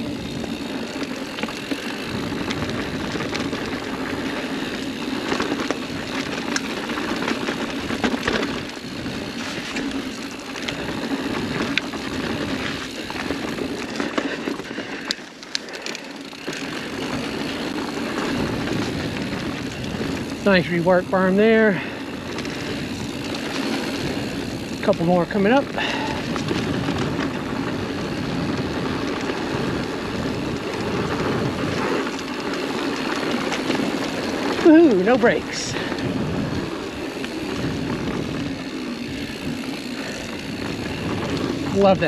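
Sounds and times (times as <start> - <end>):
bike clicks and rattles: 0.0 - 42.0
bike tyres on dirt: 0.0 - 42.0.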